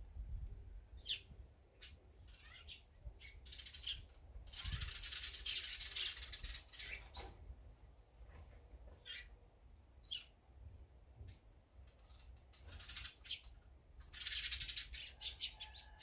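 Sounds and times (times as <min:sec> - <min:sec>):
songbirds chirping: 0:00.5 - 0:16.0.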